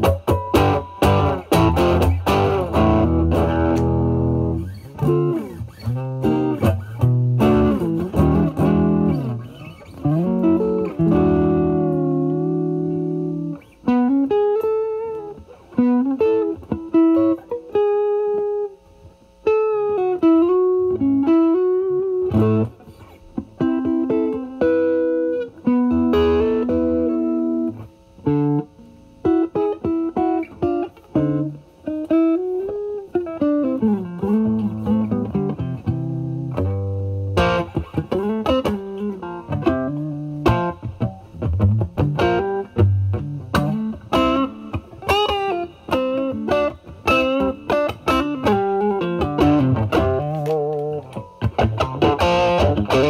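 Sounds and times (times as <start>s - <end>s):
overdriven electric guitar: 0.0s - 53.0s.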